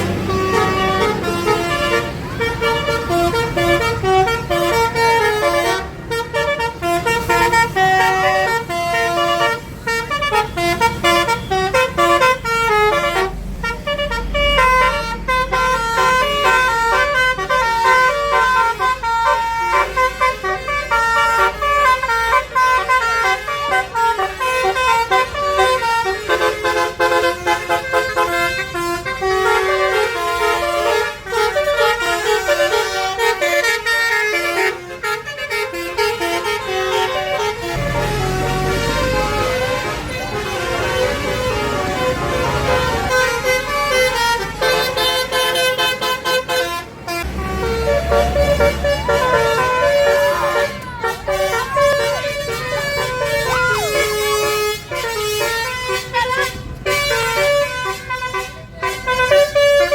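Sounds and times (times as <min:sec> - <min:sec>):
multi-tone bus horn tune: 0:00.0 - 0:59.9.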